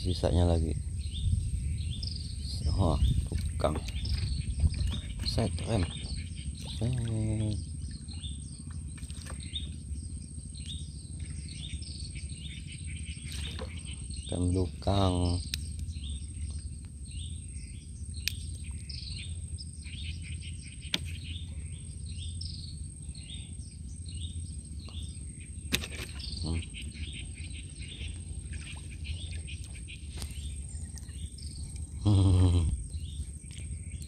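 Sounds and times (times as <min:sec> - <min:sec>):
birds chirping: 0:00.0 - 0:34.0
steady low rumble: 0:00.0 - 0:34.0.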